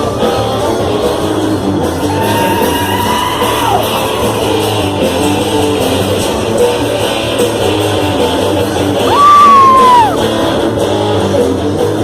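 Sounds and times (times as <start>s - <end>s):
band playing rock worship music: 0.0s - 12.0s.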